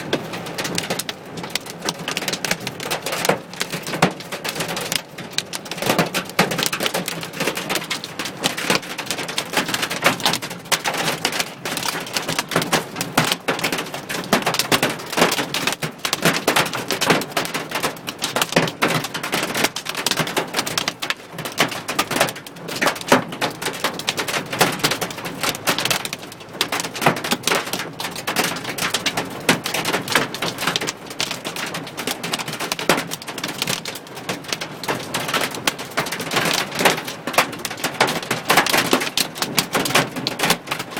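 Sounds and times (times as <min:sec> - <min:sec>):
hail and rain on car roof: 0:00.0 - 0:40.9.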